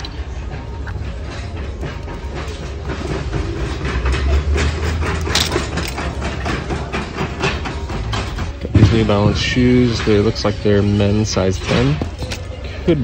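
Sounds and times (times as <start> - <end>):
metal shopping cart rattling: 0.0 - 13.0.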